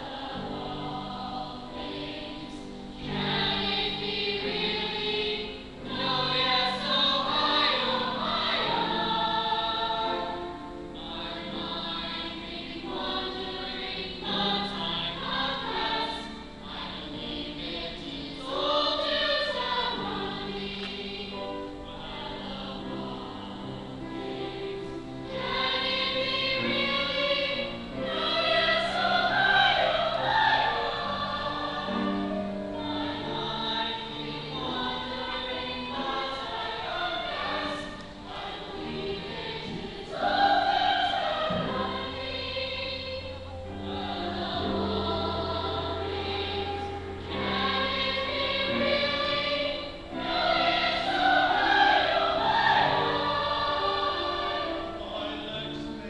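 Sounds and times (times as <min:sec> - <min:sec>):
ensemble singing: 0:00.0 - 0:56.0.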